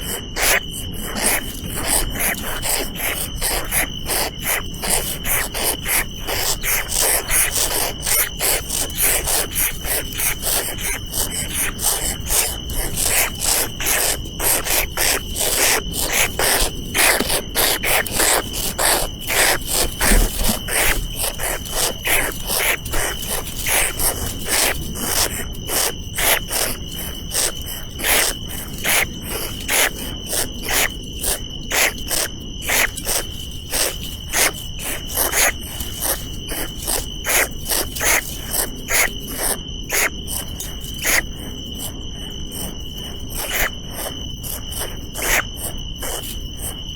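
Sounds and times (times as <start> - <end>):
insects calling: 0.0 - 46.9.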